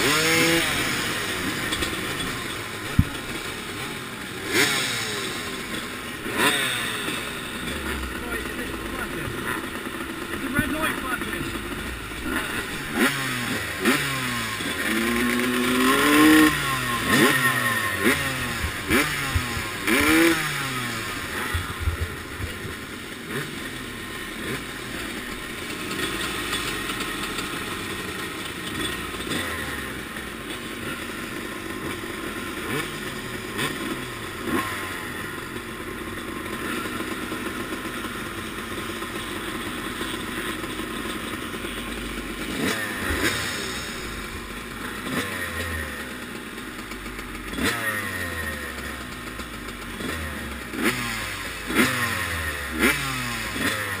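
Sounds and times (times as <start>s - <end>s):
motocross bikes revving and idling: 0.0s - 54.0s.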